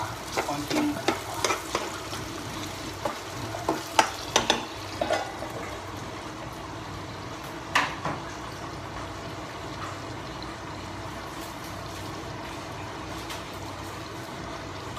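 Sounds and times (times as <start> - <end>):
tomatoes sizzling in a pan: 0.0 - 14.9.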